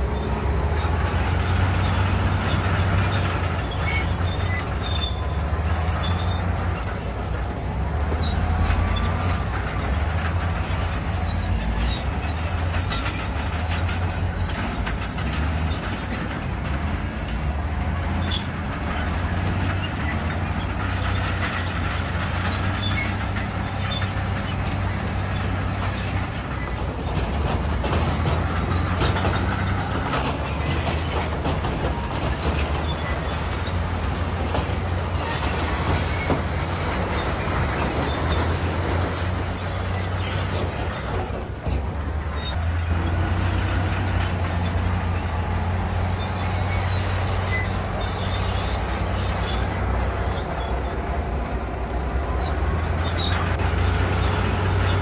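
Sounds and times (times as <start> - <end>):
bulldozer diesel engine rumbling: 0.0 - 55.0
steel tracks clanking: 0.0 - 55.0.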